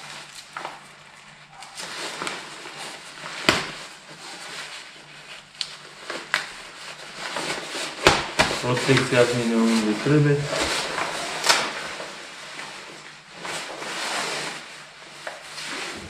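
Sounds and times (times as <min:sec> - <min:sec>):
textile jacket rustling: 0:00.8 - 0:16.0.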